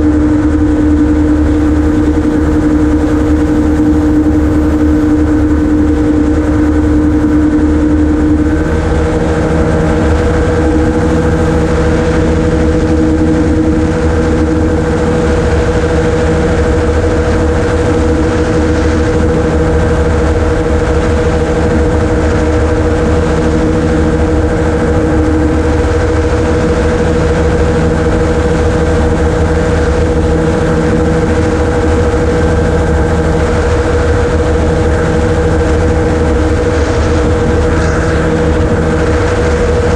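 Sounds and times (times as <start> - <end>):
gyroplane engine drone: 0.0 - 39.9.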